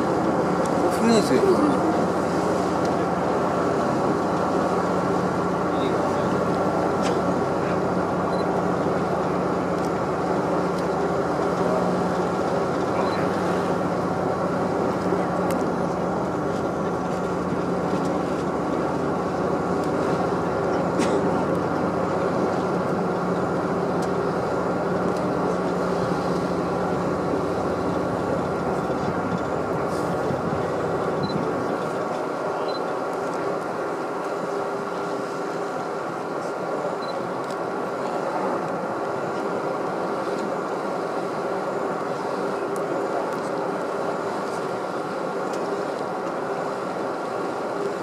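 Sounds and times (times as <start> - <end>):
boat engine humming: 0.0 - 48.0.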